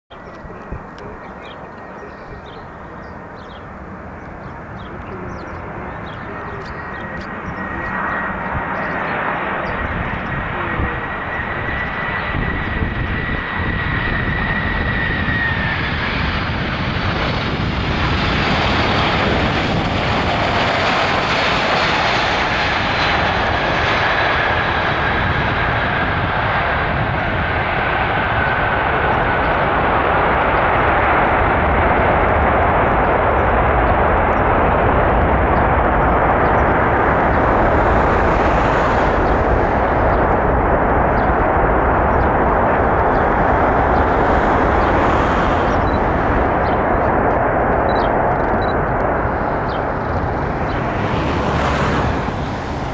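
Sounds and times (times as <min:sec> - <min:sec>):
jet engines roaring and whining: 0:00.1 - 0:52.9.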